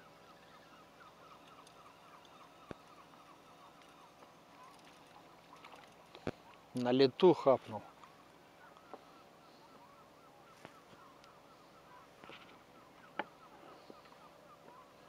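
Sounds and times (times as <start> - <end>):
distant flock of birds calling: 0.0 - 15.0.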